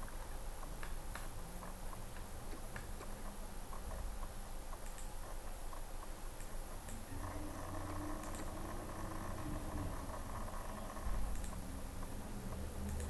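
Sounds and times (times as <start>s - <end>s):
mouse scroll wheel ticking: 0.0s - 13.0s.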